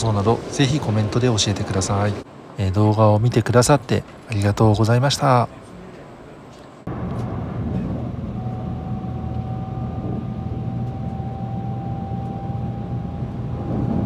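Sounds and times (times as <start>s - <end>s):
thin steady whine: 0.0s - 14.0s
train interior rumble: 0.0s - 14.0s.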